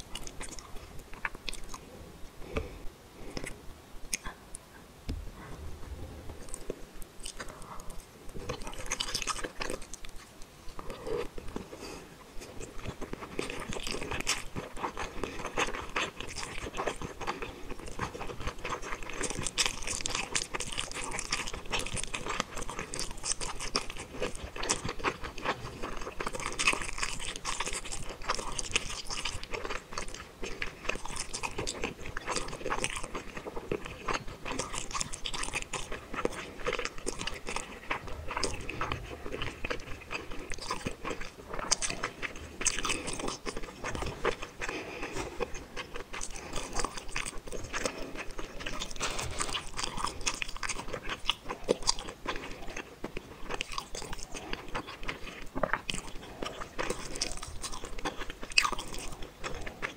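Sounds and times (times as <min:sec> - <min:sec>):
chewing with mouth clicks: 0:00.0 - 0:02.7, 0:03.3 - 0:04.6, 0:06.3 - 0:59.9.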